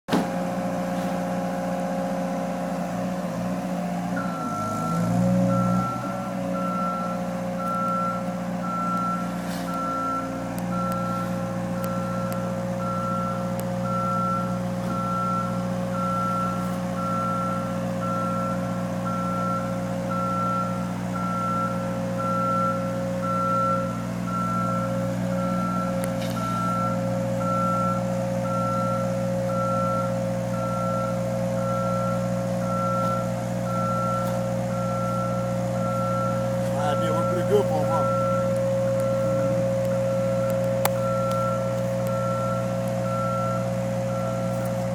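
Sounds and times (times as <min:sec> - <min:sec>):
diesel engine running: 0:00.1 - 0:44.9
vehicle backup alarm beeping: 0:03.3 - 0:44.9.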